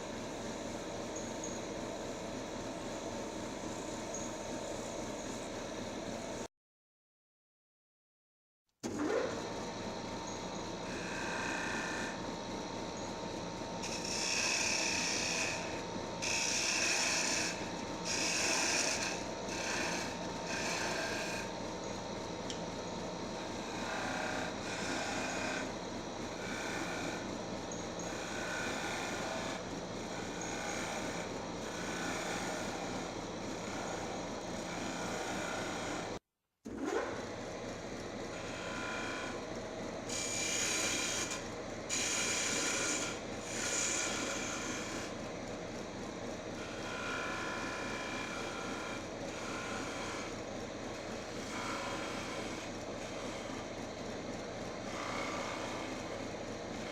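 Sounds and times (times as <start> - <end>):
wood lathe humming: 8.9 - 36.2, 37.5 - 56.9.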